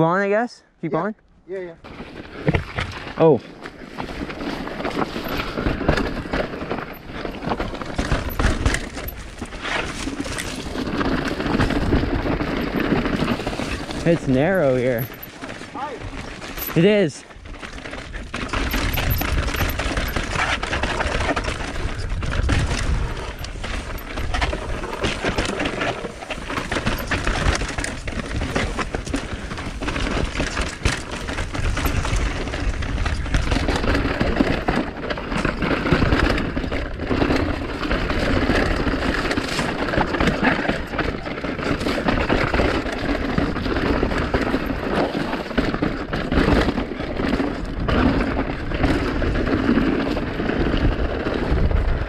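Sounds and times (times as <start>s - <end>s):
bike rattling over bumps: 1.8s - 52.0s
tyres running over dirt: 1.8s - 52.0s.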